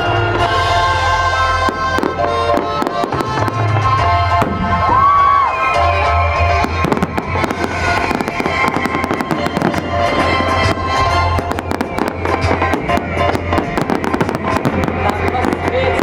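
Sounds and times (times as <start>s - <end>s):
fireworks bursting and crackling: 0.0s - 16.0s
loud music with bass line: 0.0s - 16.0s.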